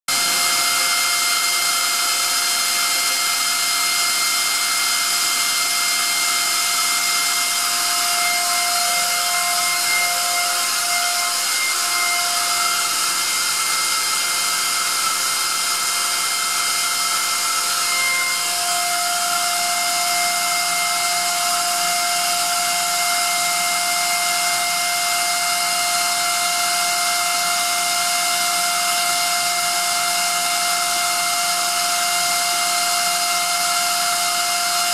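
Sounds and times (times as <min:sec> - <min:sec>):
air compressor hissing and whining: 0:00.1 - 0:34.9.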